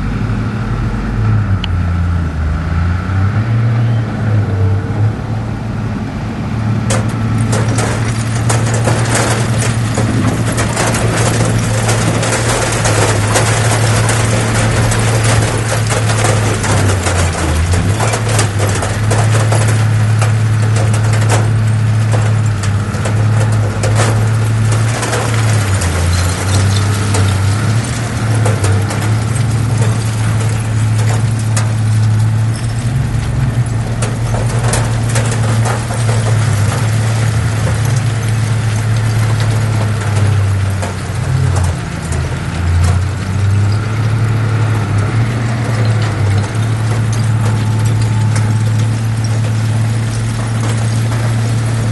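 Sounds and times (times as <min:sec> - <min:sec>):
diesel machinery engine hum: 0:00.0 - 0:51.9.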